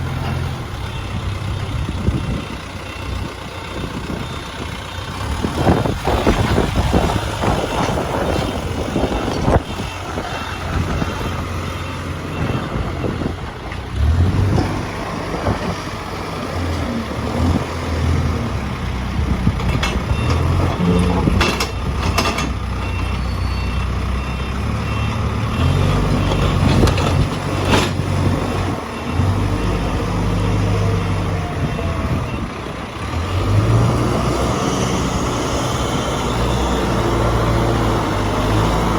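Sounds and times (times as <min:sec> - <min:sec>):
reversing alarm beeping: 0:00.0 - 0:16.8, 0:19.5 - 0:38.9
diesel engine running: 0:00.0 - 0:38.9.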